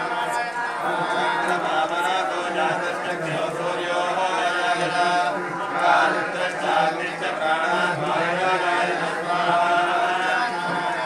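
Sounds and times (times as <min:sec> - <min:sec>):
men chanting together: 0:00.0 - 0:11.0.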